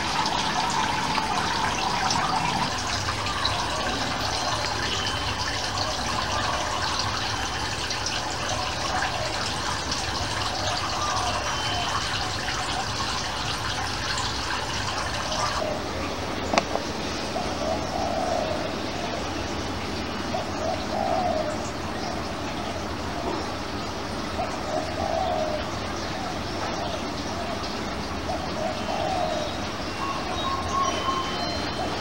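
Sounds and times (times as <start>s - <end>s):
running water: 0.0s - 32.0s.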